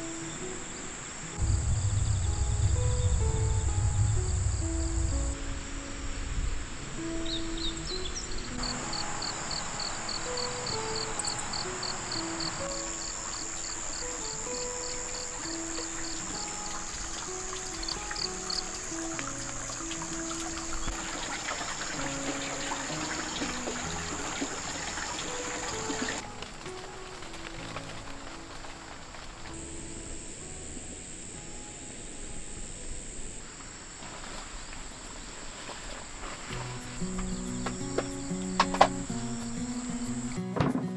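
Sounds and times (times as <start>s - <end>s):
high insect chirp: 0.0s - 40.4s
insect hum: 0.0s - 40.4s
soft background hiss: 0.0s - 40.4s
soft background music: 0.0s - 40.9s.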